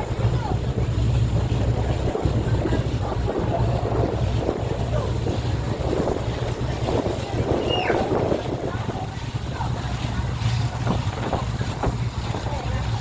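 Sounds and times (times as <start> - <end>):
motorboat engine rumbling: 0.0 - 13.0
water rushing past hull: 0.0 - 13.0
wind buffeting microphone: 0.0 - 13.0.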